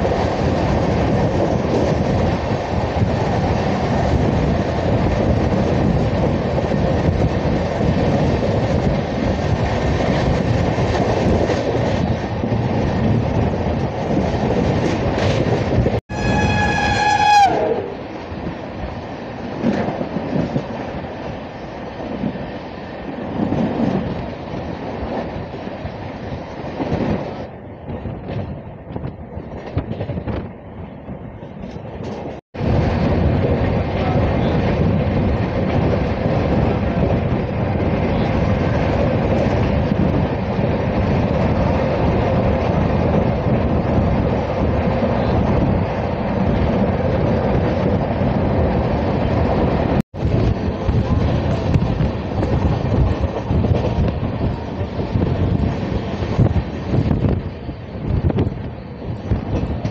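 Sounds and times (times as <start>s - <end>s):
train passing on next track: 0.0s - 59.9s
train wheels on rails: 0.0s - 59.9s.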